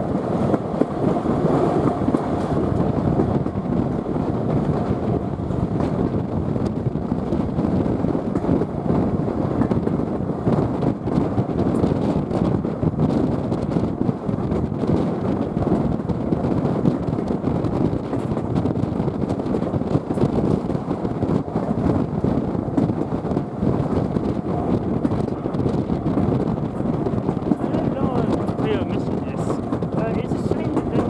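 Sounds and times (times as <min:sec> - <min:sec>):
train wheels rumbling on track: 0:00.0 - 0:31.0
wind buffeting microphone: 0:00.0 - 0:31.0.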